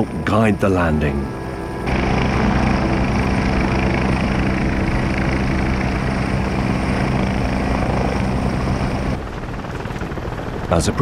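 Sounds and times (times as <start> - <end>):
helicopter flying low: 0.0 - 11.0.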